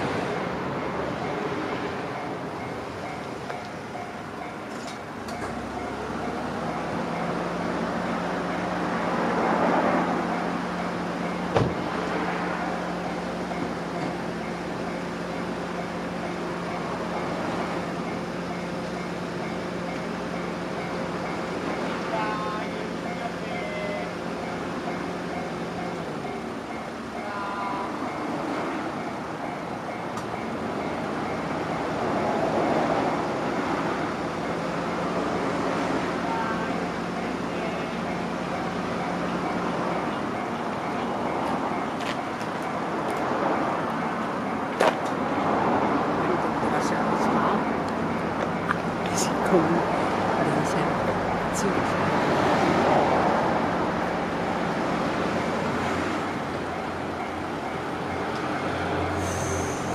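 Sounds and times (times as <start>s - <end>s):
crossing warning bell: 0.0s - 59.9s
train rolling past: 0.0s - 59.9s.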